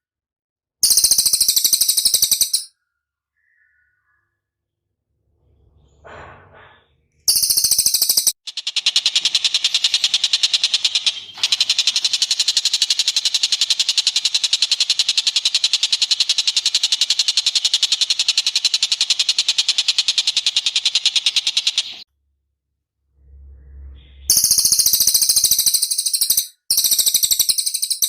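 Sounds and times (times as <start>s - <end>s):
recorded bird calls: 0.8s - 4.7s, 5.4s - 22.0s, 23.9s - 28.0s.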